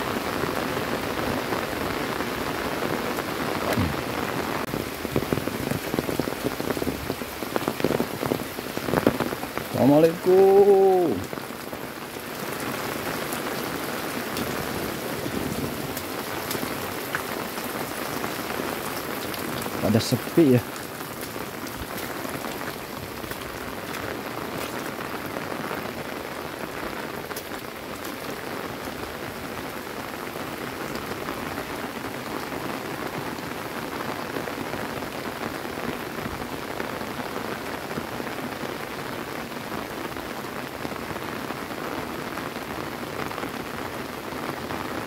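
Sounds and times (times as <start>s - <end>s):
steady rain on wet ground: 0.0s - 45.0s.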